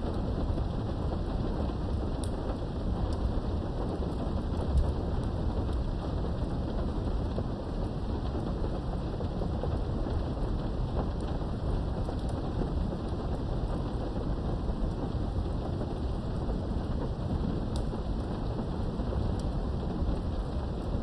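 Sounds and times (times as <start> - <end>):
faint raindrop ticks: 0.0 - 21.0
low thunder rumble: 0.0 - 21.0
steady rain: 0.0 - 21.0.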